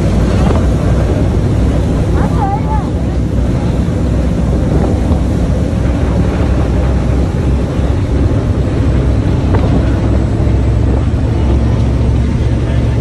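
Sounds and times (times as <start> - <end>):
ferry engines droning: 0.0 - 13.0
water rushing: 0.0 - 13.0
wind buffeting microphone: 0.0 - 13.0.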